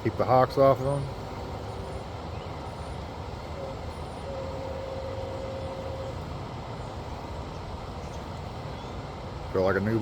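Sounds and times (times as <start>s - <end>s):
faint steady tone: 0.0s - 10.0s
low outdoor background rumble: 0.0s - 10.0s.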